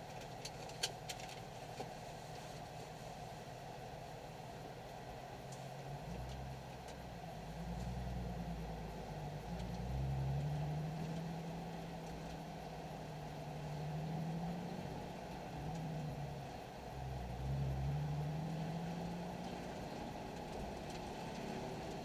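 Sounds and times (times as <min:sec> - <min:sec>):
car engine humming at low revs: 0:00.0 - 0:22.0.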